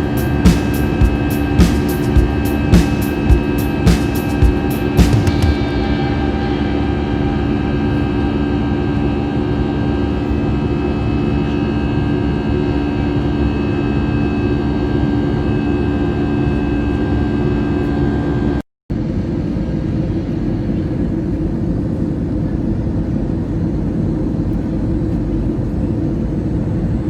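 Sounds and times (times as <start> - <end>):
airliner engine drone in cabin: 0.0 - 27.0.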